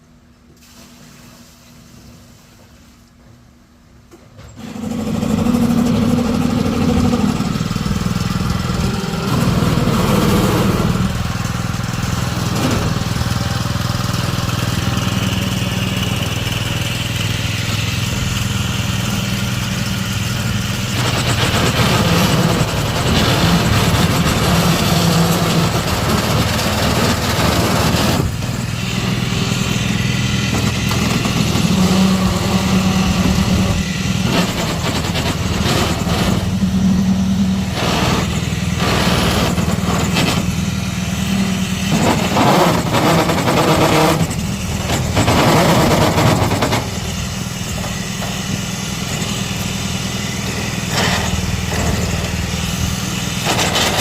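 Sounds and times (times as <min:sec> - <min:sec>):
concrete mixer engine running: 0:02.7 - 0:54.0
rattling noise: 0:04.5 - 0:54.0.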